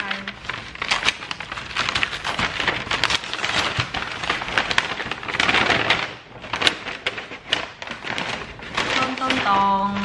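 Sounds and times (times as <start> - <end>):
packaging crackling and tearing: 0.0 - 10.0.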